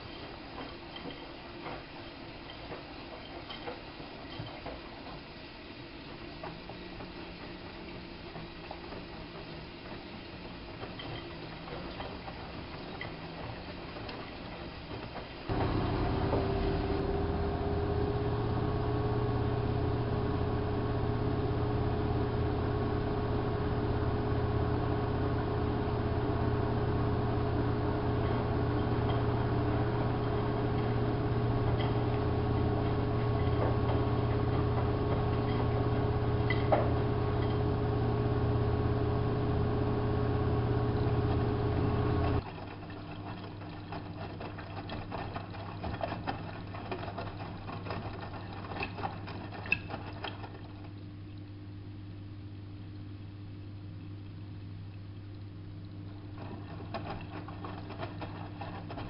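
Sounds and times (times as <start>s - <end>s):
washing machine hum and whine: 0.0s - 59.0s.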